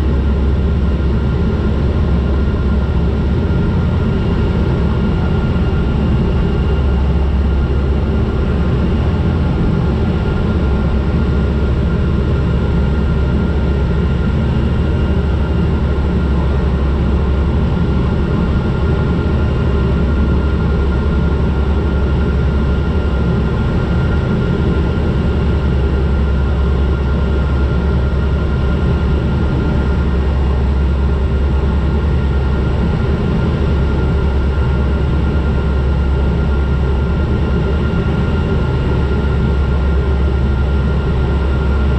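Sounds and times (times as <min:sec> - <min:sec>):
turboprop aircraft droning: 0:00.0 - 0:41.9.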